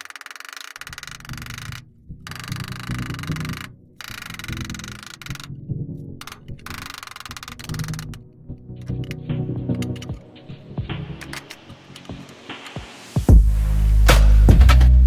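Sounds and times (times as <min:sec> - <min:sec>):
background music: 0:00.9 - 0:15.0.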